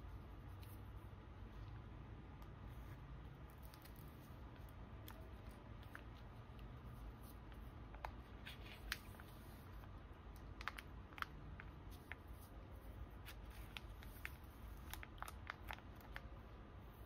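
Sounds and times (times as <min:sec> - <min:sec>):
plastic sleeves crinkling: 0:02.7 - 0:17.0.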